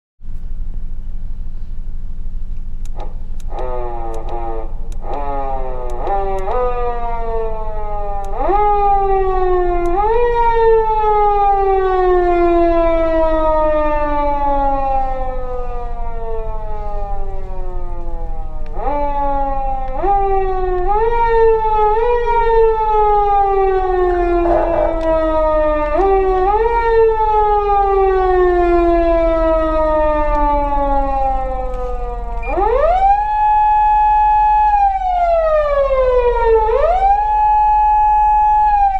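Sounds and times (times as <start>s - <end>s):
electronic police siren: 2.9s - 38.9s.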